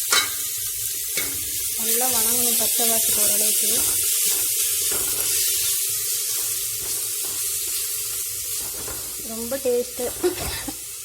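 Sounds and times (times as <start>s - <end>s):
spice paste sizzling in hot oil: 0.0s - 11.0s.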